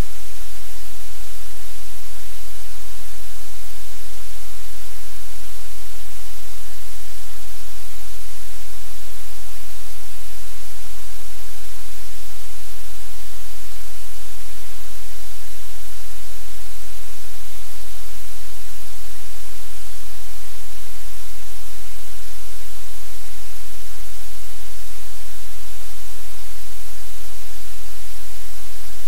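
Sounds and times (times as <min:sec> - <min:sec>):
static hiss: 0:00.0 - 0:29.0.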